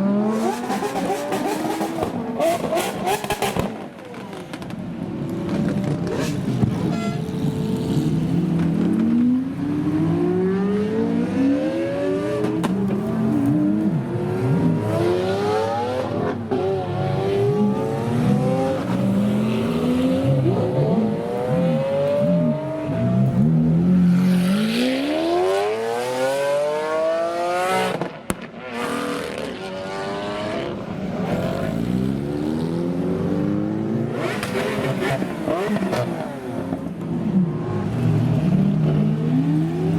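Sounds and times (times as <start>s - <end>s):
supercar engines revving: 0.0s - 39.9s.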